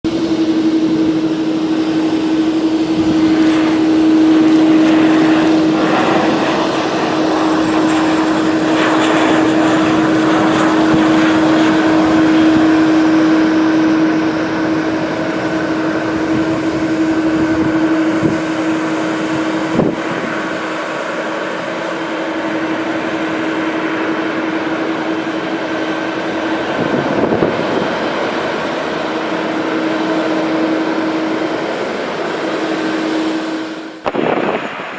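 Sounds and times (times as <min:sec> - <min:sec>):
jet engine rushing noise: 0:00.1 - 0:34.9
low hum: 0:00.1 - 0:34.9.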